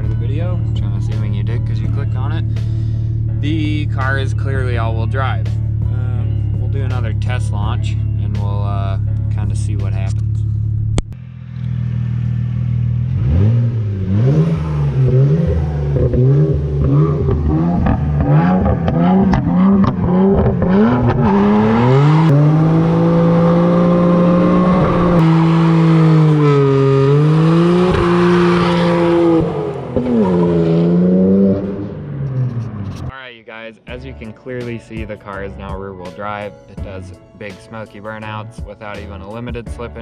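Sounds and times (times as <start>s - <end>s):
car engine revving: 0.0s - 33.1s.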